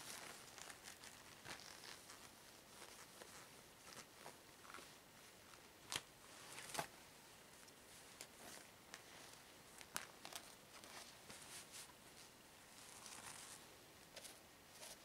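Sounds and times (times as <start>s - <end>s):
rubber gloves rustling: 0.0s - 15.0s.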